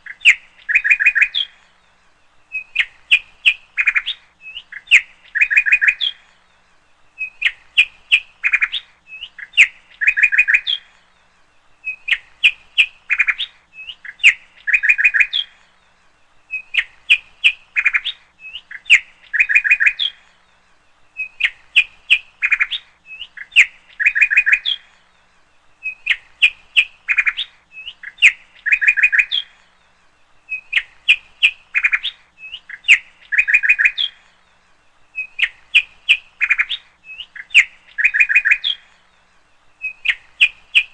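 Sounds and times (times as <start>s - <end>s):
bird chirping rapidly: 0.0s - 1.6s, 2.4s - 6.2s, 7.1s - 11.0s, 11.8s - 15.7s, 16.4s - 20.4s, 21.1s - 24.9s, 25.7s - 29.7s, 30.4s - 34.4s, 35.0s - 40.9s.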